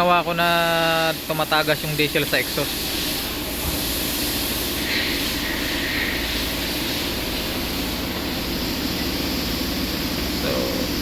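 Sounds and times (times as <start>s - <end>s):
machine drone with hiss: 0.0s - 11.0s.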